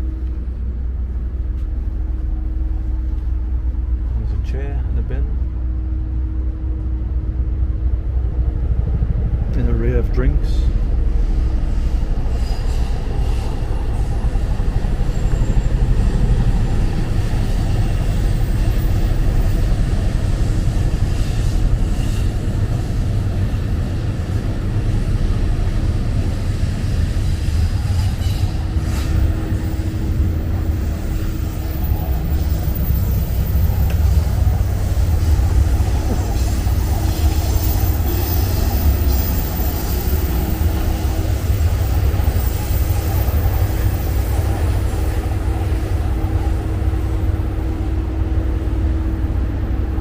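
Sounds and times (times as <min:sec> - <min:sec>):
low urban rumble: 0:00.0 - 0:50.0.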